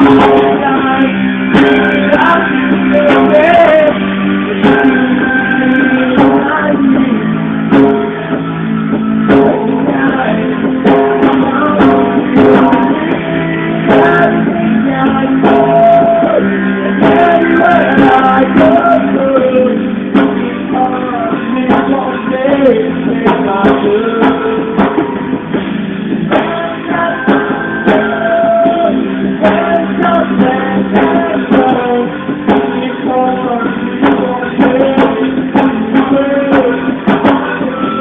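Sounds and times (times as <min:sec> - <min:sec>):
guitar: 0:00.0 - 0:38.0
steady drum beat: 0:00.0 - 0:38.0.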